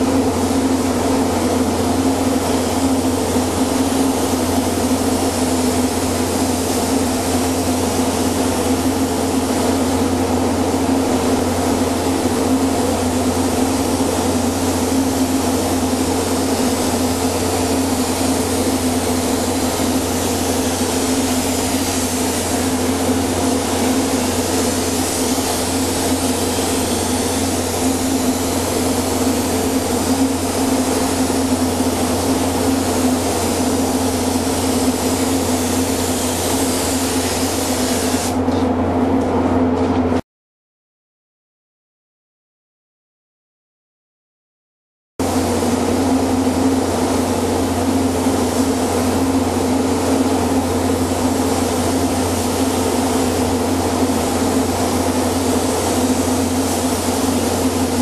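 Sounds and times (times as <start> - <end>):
spray gun hissing: 0.0 - 38.4, 45.2 - 58.0
steady mechanical hum: 0.0 - 40.2, 45.2 - 58.0.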